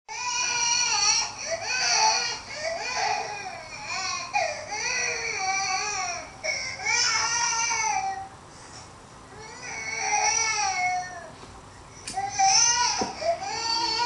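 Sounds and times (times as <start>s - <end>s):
baby crying: 0.1s - 8.3s, 9.4s - 11.3s, 12.2s - 14.0s.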